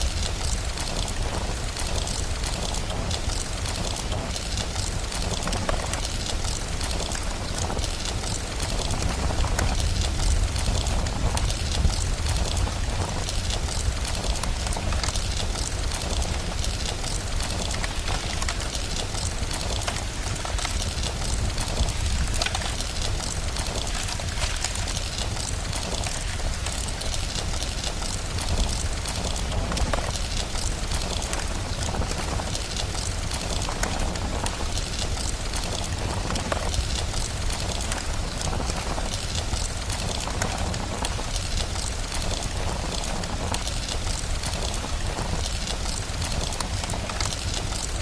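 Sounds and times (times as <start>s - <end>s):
steady rain: 0.0s - 48.0s
wood fire crackling: 0.0s - 48.0s.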